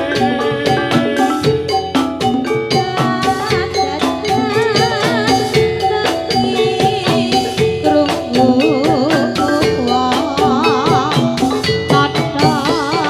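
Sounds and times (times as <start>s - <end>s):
driving drum beat: 0.0s - 13.0s
gamelan metal mallet instruments: 0.0s - 13.0s
wavering high melody: 0.0s - 13.0s.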